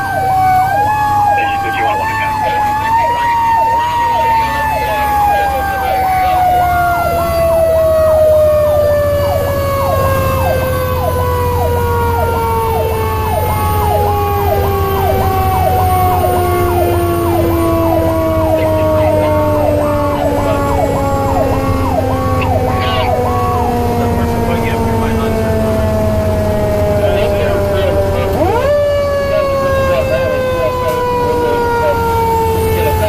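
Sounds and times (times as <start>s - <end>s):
electronic siren cycling: 0.0s - 33.0s
engine and road rumble: 0.0s - 33.0s
siren tone winding down: 0.0s - 33.0s.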